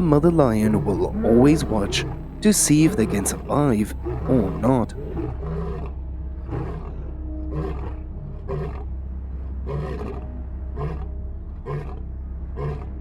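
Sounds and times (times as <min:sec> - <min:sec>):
lion grunting: 0:00.0 - 0:08.9, 0:09.6 - 0:12.0, 0:12.6 - 0:12.9.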